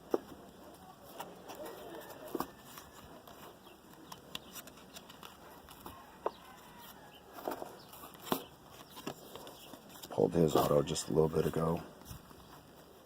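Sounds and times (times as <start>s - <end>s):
trading cards rustling and clicking: 0.0s - 13.0s.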